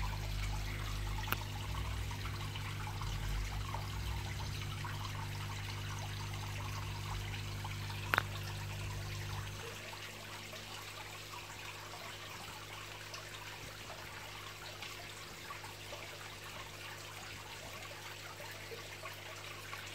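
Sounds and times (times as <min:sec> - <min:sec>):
low steady hum: 0:00.0 - 0:19.9
water trickling into pond: 0:00.0 - 0:19.9.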